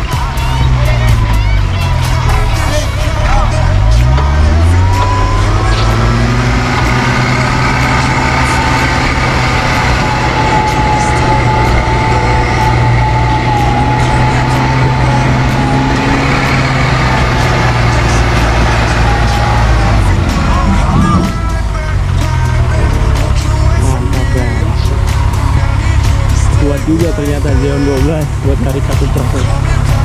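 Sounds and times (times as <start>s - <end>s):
engines droning: 0.0s - 30.0s
winch whine: 1.8s - 28.6s.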